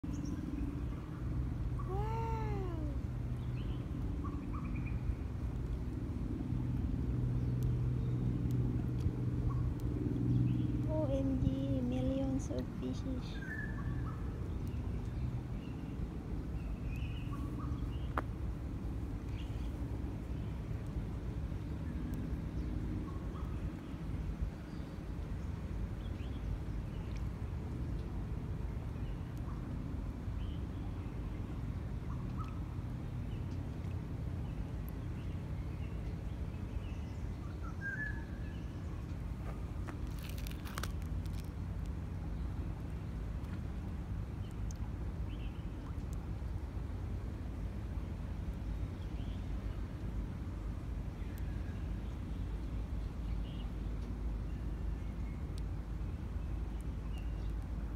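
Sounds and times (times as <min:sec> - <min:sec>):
steady low rumble: 0:00.0 - 0:57.9.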